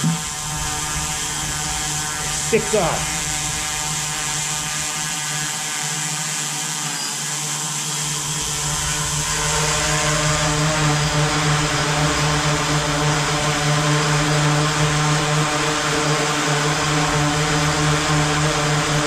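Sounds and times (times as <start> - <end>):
drone propellers humming: 0.0 - 19.0.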